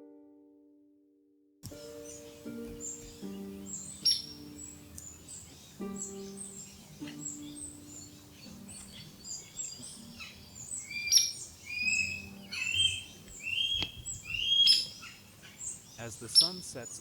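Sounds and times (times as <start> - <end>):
wild birds chirping: 1.6 - 17.0.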